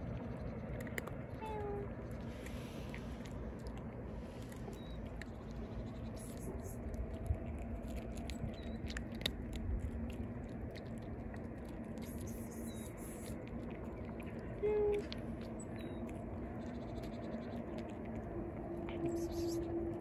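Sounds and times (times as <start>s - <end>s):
cats chewing dry kibble: 0.0s - 20.0s
low background hum: 0.0s - 20.0s.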